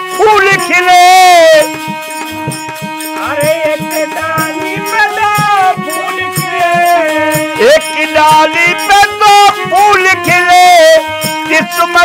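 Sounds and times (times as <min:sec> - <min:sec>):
harmonium playing: 0:00.0 - 0:12.0
person singing: 0:00.0 - 0:12.0
hand drum beats: 0:00.2 - 0:12.0.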